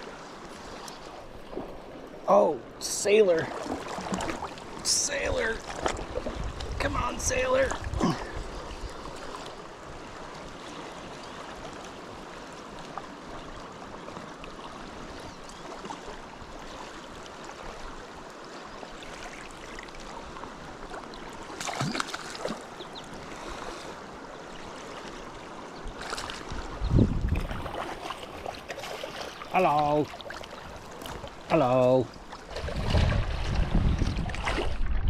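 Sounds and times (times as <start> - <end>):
river water rushing: 0.0 - 33.8.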